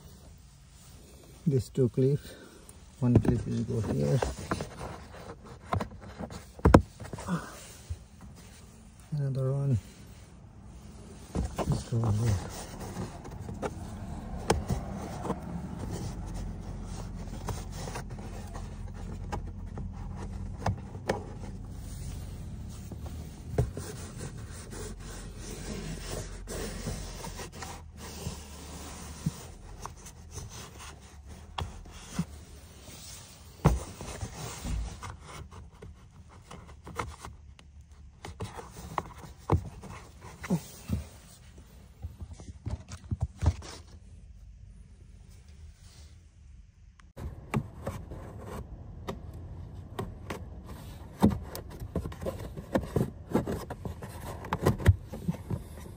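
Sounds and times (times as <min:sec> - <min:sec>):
plastic rubbing and scraping: 0:02.9 - 0:44.1, 0:47.2 - 0:55.9.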